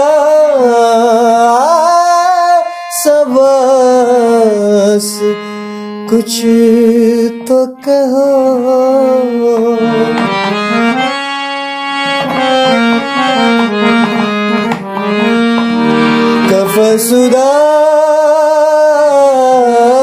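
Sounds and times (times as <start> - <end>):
harmonium melody: 0.0 - 20.0.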